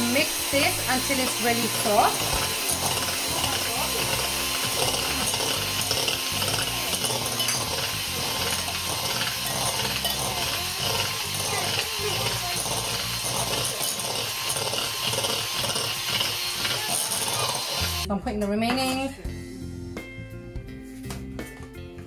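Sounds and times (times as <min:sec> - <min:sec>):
electric hand mixer whipping: 0:00.0 - 0:18.1.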